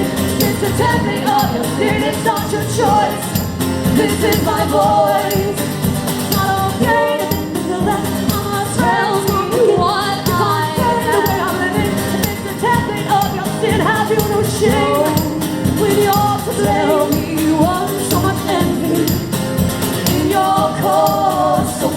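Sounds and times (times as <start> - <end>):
live band accompaniment: 0.0 - 21.9
women singing: 0.0 - 21.9.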